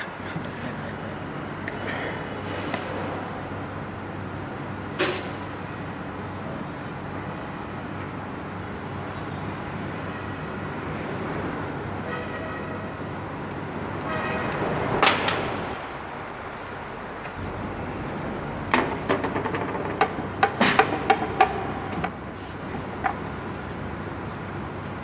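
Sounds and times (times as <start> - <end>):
workshop background noise: 0.0 - 8.6, 12.0 - 25.0.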